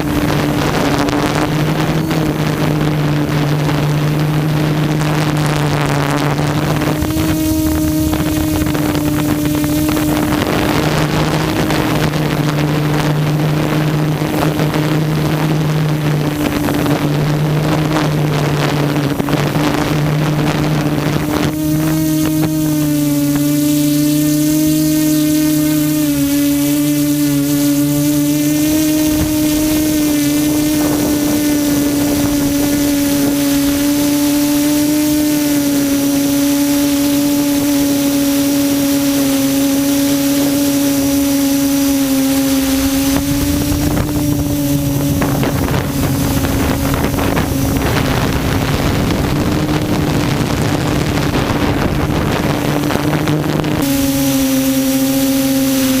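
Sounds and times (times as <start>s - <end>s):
quadcopter propellers buzzing: 0.0s - 56.0s
wind noise on microphone: 0.0s - 56.0s.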